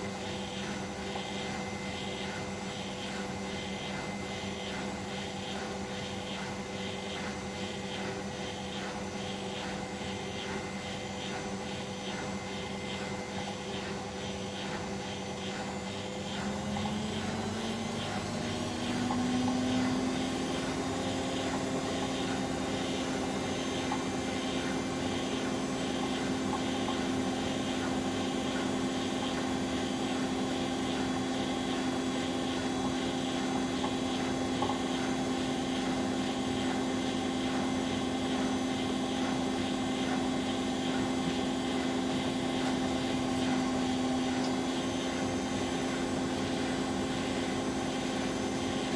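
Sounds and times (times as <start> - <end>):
washing machine motor whining: 0.0 - 48.9.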